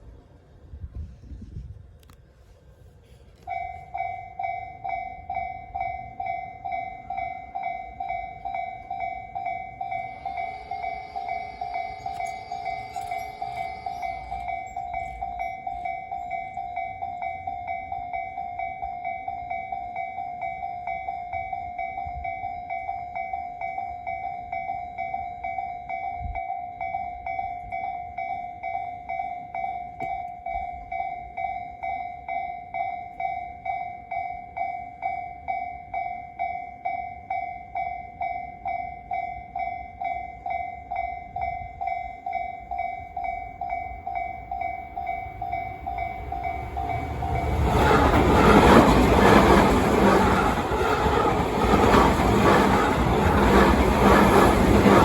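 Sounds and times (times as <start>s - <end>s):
level crossing warning bell: 3.4s - 55.0s.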